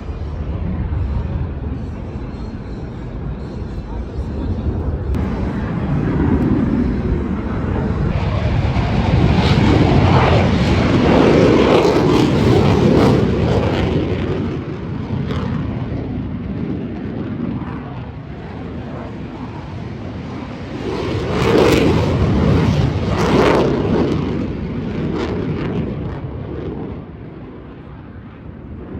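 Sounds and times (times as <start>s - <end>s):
aircraft passing: 0.0s - 28.9s.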